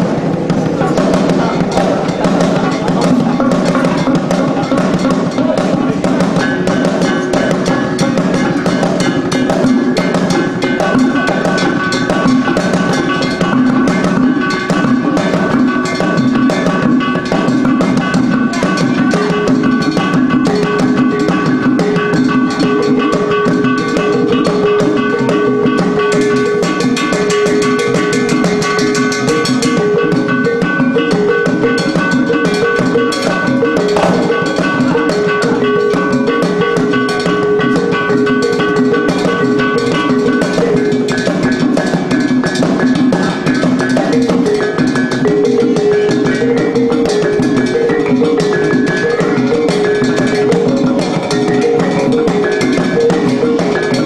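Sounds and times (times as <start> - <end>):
fast drum beat: 0.0 - 54.0
held melodic notes: 0.0 - 54.0.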